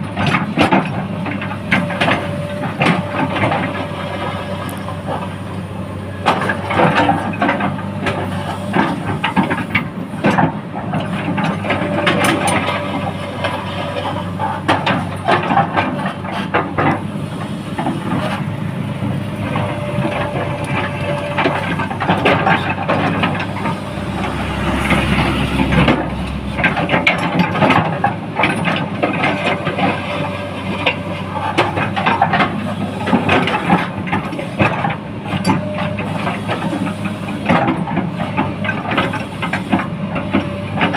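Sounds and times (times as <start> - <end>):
heavy machinery engine running: 0.0 - 40.9
knocks clanks and scraping: 0.0 - 40.9.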